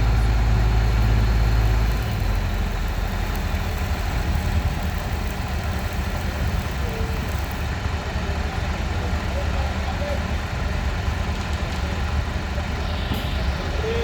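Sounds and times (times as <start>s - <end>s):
heavy engine deep rumble: 0.0s - 14.0s
traffic noise: 0.0s - 14.0s.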